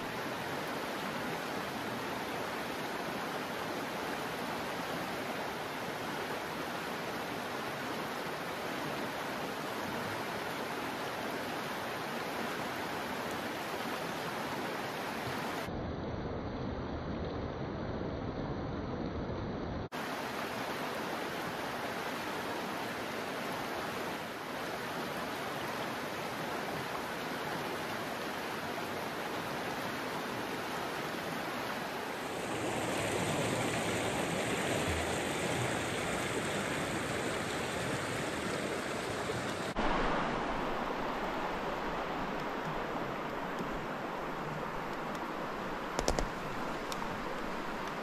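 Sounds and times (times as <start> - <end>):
creek water rushing: 0.0 - 15.7, 19.9 - 48.0.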